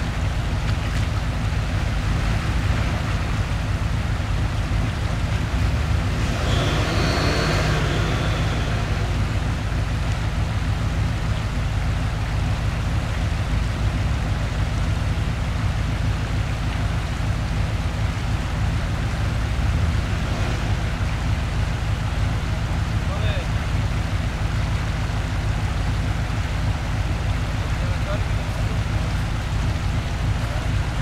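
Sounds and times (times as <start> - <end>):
off-road vehicle engine running: 0.0 - 31.0
running water: 0.0 - 31.0
tyres churning through snow: 0.0 - 31.0.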